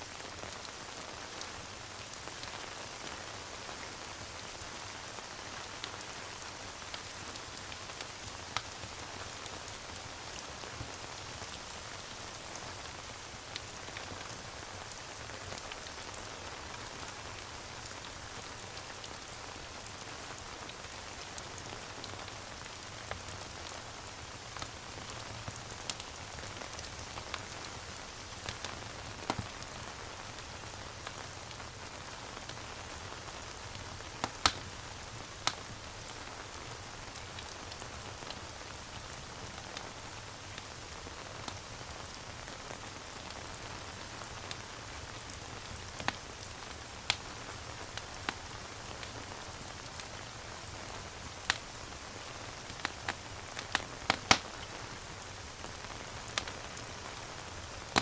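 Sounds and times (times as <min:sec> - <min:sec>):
steady rain hiss: 0:00.0 - 0:58.0
fire crackling and popping: 0:00.2 - 0:58.0.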